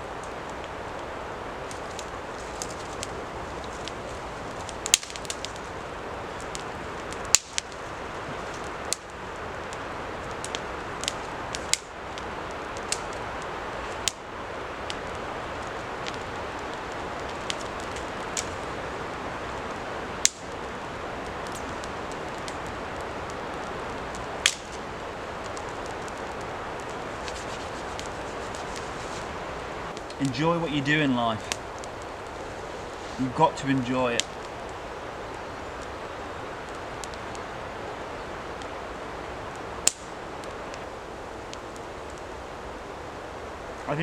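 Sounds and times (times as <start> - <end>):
campfire popping and cracking: 0.0 - 44.0
fire hissing: 0.0 - 44.0.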